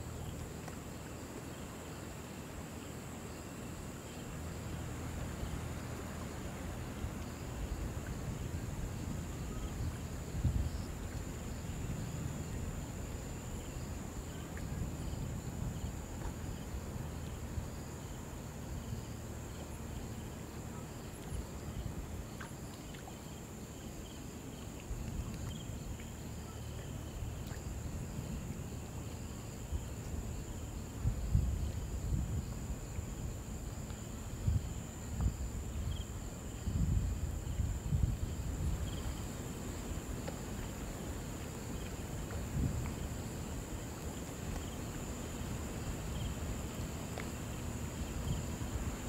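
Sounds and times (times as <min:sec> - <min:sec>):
insects droning: 0:00.0 - 0:49.0
shallow river water lapping: 0:00.0 - 0:49.0.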